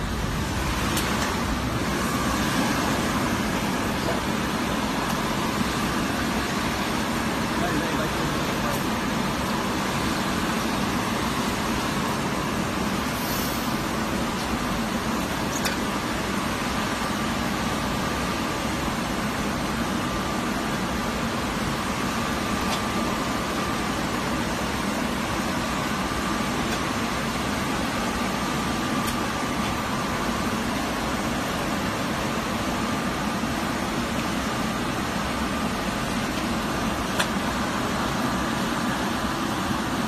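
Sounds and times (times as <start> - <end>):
blower and conveyor whir: 0.0 - 40.0.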